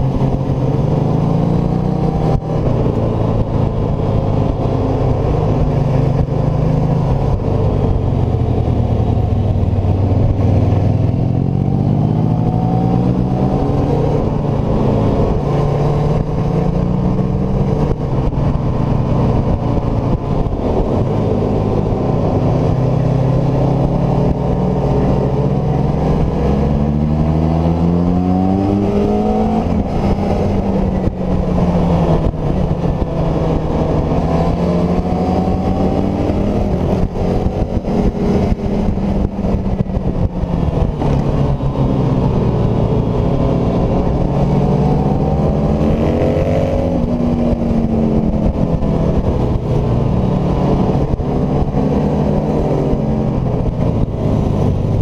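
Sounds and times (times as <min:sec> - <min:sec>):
motorcycle engine at high revs: 0:00.0 - 0:55.0
wind rush: 0:00.0 - 0:55.0.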